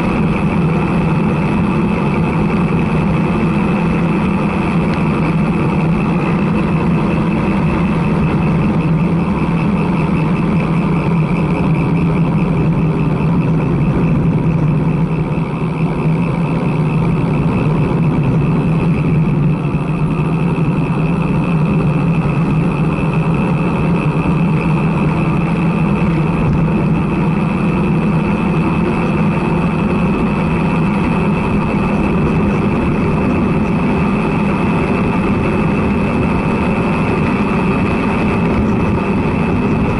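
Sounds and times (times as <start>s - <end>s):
bike tyres rolling on asphalt: 0.0s - 39.9s
wind on microphone: 0.0s - 39.9s.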